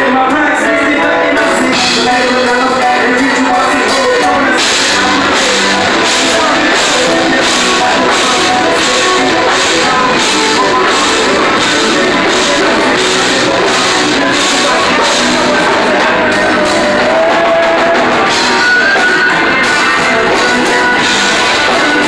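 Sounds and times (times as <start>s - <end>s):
electric guitar: 0.0s - 22.0s
keyboard: 0.0s - 22.0s
person singing: 0.0s - 22.0s
drum kit with cymbals: 1.4s - 22.0s.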